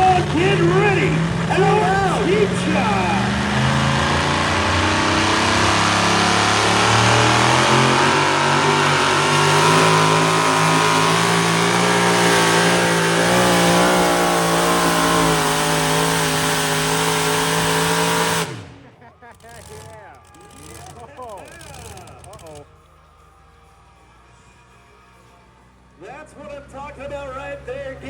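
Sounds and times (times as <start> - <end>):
truck engine at full throttle: 0.0 - 28.0.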